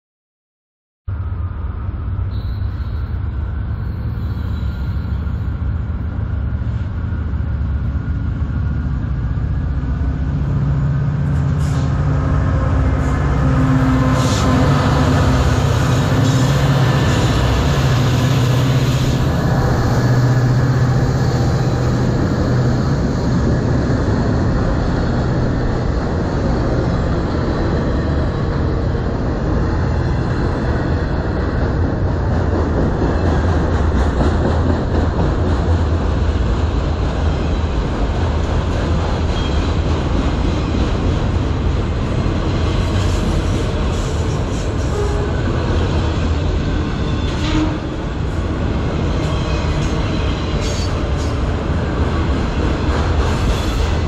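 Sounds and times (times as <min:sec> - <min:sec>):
diesel locomotive engines: 0:01.1 - 0:54.0
train wheels on rails: 0:01.8 - 0:54.0.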